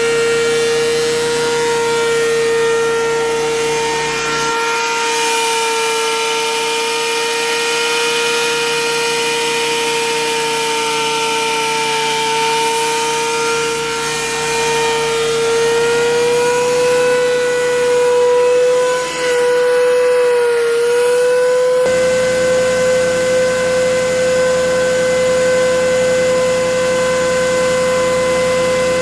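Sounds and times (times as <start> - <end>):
planer motor whining: 0.0 - 29.0.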